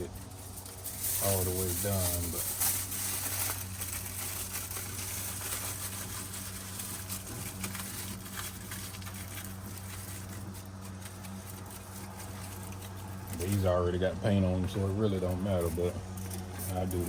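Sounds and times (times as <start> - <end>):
aluminum foil crinkling: 0.0 - 17.0
steady low hum: 0.0 - 17.0.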